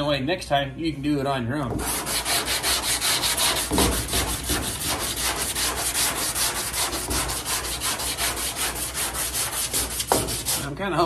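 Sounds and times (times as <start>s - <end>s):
sandpaper scrubbing on filler: 1.8s - 11.0s.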